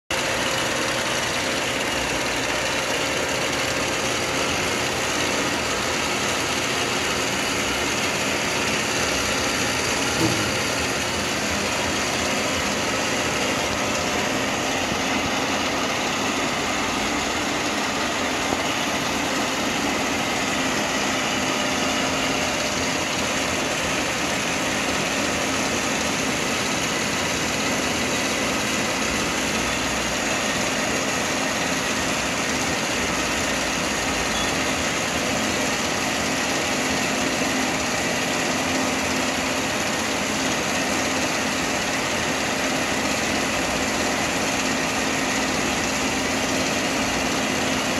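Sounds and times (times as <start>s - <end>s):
drill press motor humming: 0.1s - 47.9s.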